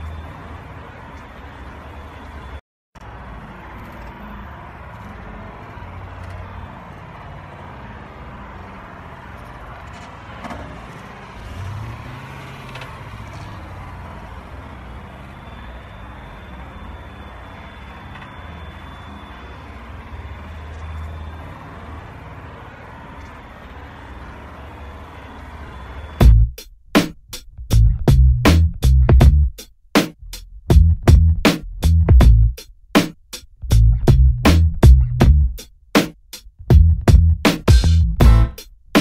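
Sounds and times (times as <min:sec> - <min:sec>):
traffic engine rumble: 0:00.0 - 0:39.0.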